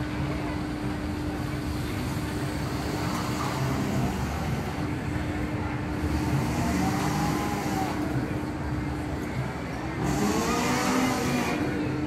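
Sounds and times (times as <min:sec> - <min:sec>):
ride mechanical rumble: 0:00.0 - 0:12.0.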